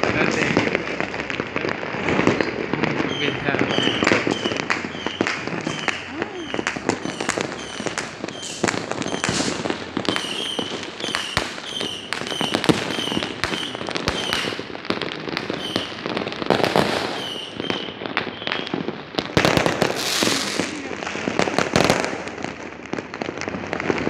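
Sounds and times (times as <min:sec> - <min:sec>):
fireworks banging and crackling: 0:00.0 - 0:24.0.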